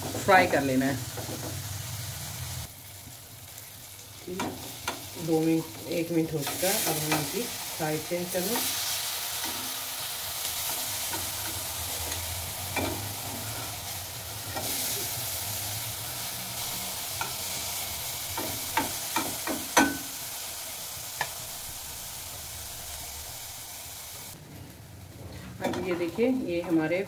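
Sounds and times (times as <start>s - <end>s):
sizzling in frying pan: 0.0s - 27.0s.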